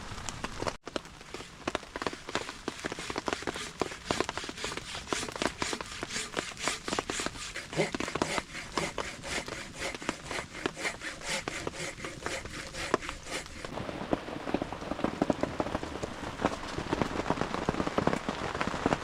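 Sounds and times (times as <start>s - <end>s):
rain on a canvas tent: 0.0s - 19.0s.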